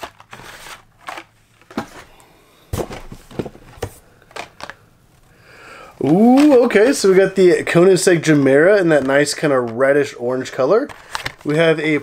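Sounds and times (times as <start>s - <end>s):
plastic packs clicking and knocking: 0.0s - 2.1s, 2.8s - 5.3s, 5.9s - 12.0s.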